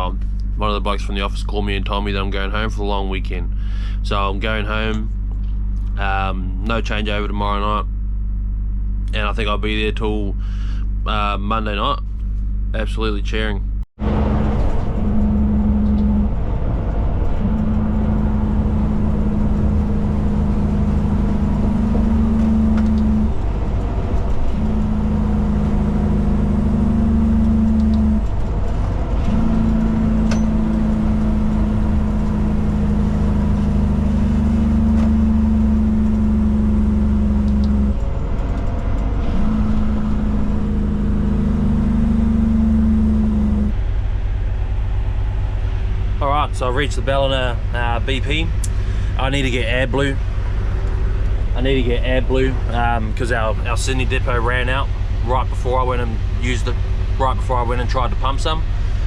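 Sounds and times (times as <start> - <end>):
diesel truck engine droning: 0.0 - 59.0.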